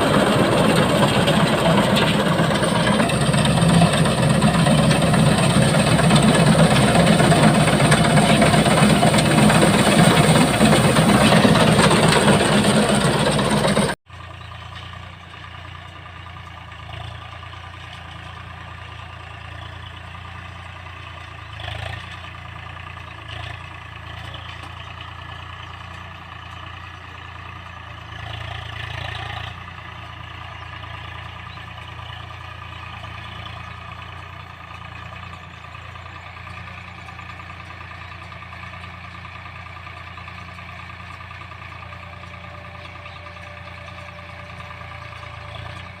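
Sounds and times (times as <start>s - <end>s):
combine harvester engine running: 0.0s - 46.0s.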